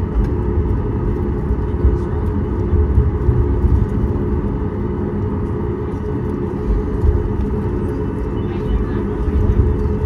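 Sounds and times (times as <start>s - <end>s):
aircraft cabin engine rumble: 0.0s - 10.0s
faint steady tones hum: 0.0s - 10.0s.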